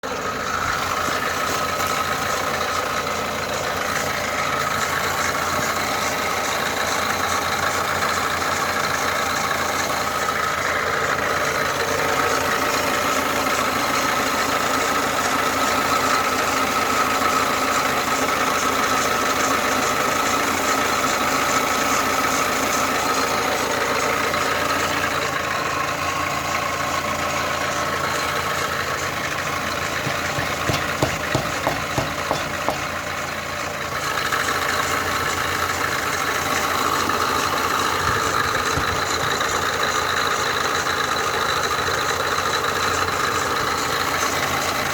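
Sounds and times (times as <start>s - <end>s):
car engine running: 0.0s - 44.9s
engine knocking: 0.0s - 44.9s.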